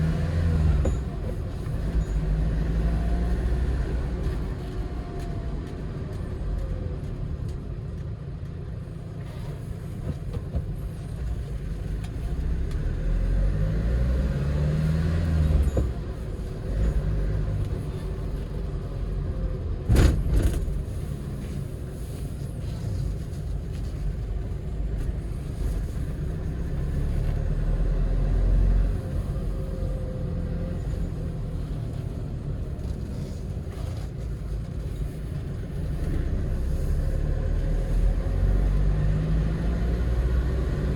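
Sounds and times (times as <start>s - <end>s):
truck engine from inside cab: 0.0s - 40.9s.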